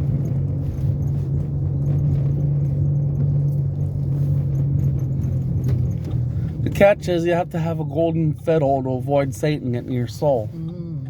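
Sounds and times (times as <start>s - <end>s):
car road and engine drone: 0.0s - 11.0s.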